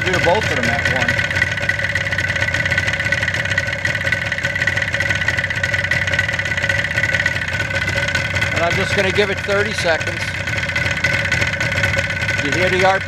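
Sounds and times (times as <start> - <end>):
two-stroke motorcycle engine idling: 0.0 - 13.0.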